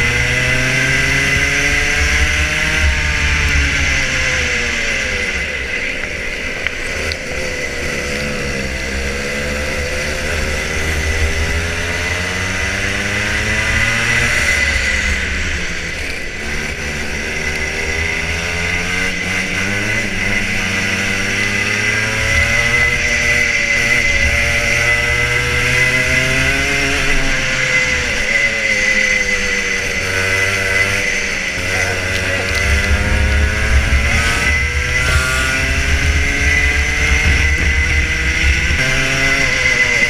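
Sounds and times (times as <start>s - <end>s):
kart engine revving: 0.0s - 40.0s
steady high whine: 0.0s - 40.0s.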